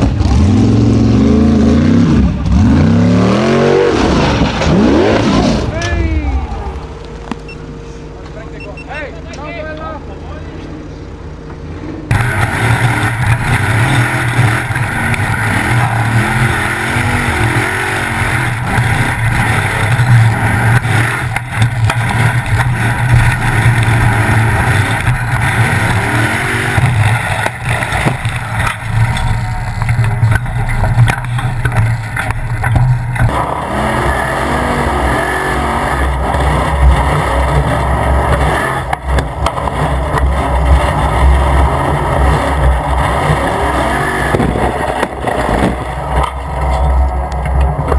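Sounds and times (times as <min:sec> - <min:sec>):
buggy engine revving under load: 0:00.0 - 0:08.0, 0:11.7 - 0:47.9.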